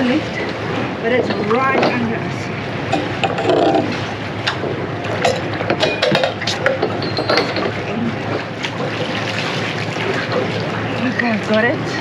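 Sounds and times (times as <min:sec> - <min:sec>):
water rushing: 0:00.0 - 0:12.0
wind: 0:00.0 - 0:12.0.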